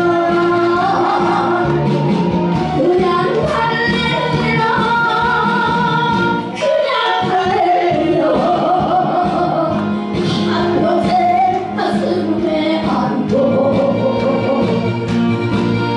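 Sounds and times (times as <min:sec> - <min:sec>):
woman singing into a microphone: 0:00.0 - 0:01.9, 0:02.7 - 0:15.0
musical accompaniment: 0:00.0 - 0:15.9.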